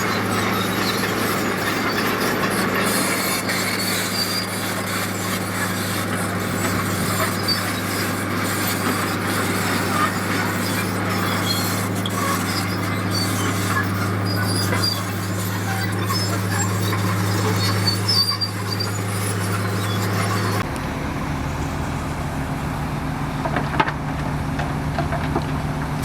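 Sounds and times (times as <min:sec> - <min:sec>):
diesel construction machinery running: 0:00.0 - 0:26.0.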